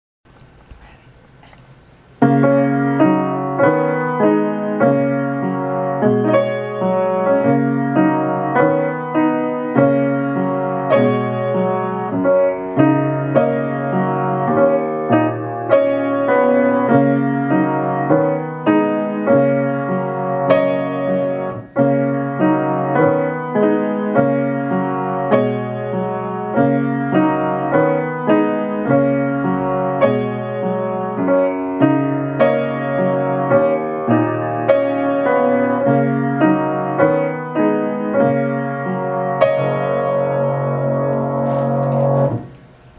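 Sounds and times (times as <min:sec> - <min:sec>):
piano duet: 0:00.3 - 0:42.9.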